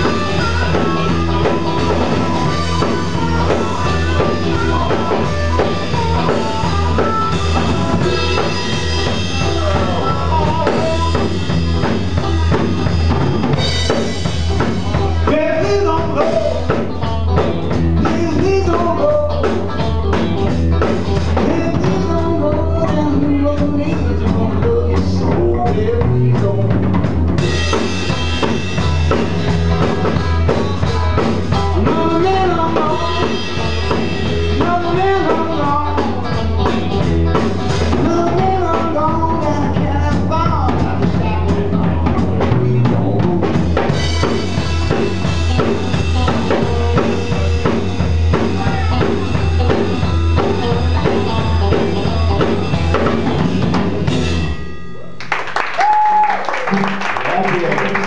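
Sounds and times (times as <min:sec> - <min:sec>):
electric guitar lead line bending: 0:00.0 - 0:55.2
blues-rock band playing: 0:00.0 - 0:58.0.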